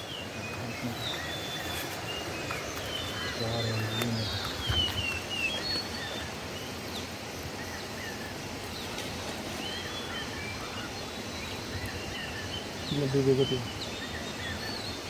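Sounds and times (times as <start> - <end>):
bird chirps: 0.0 - 9.0, 9.6 - 15.0
river water rushing: 0.0 - 12.9.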